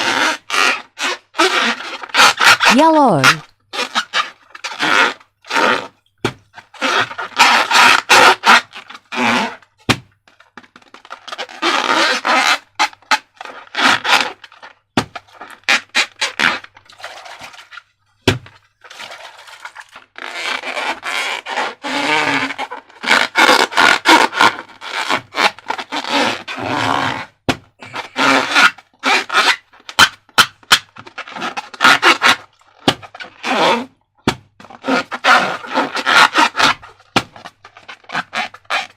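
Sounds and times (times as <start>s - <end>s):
slime worked by hand: 0.0s - 38.9s.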